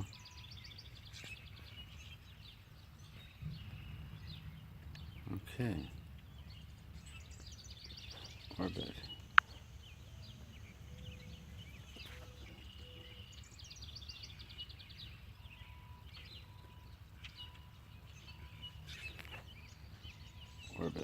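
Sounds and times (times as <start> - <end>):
faint low outdoor rumble: 0.0 - 21.0
songbirds chirping and trilling: 0.0 - 21.0.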